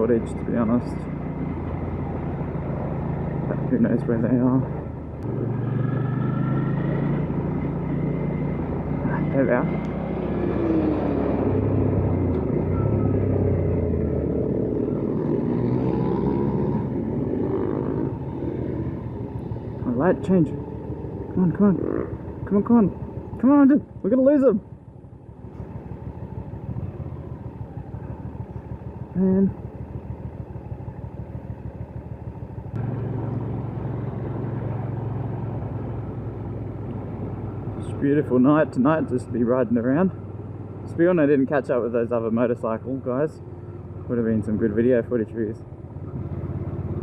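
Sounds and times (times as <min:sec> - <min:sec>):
motorcycle engine revving: 0:00.0 - 0:45.2, 0:45.8 - 0:47.0
road noise: 0:00.0 - 0:47.0.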